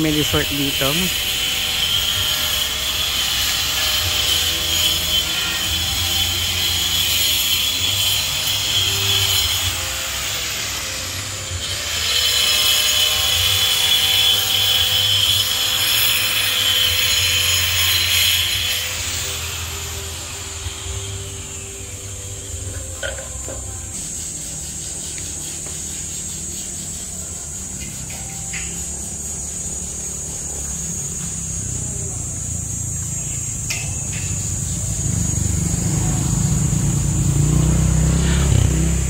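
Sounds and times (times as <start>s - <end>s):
power tool running: 0.0s - 39.0s.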